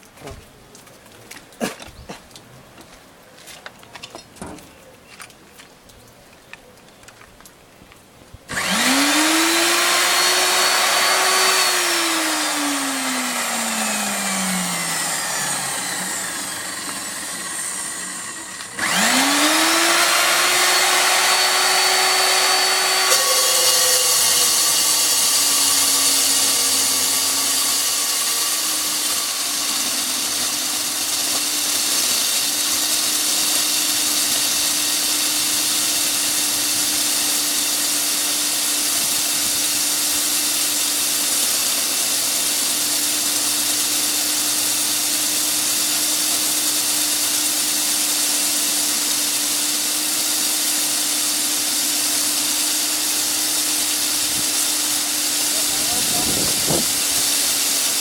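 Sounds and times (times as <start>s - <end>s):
electric drill boring wood: 8.5s - 58.0s.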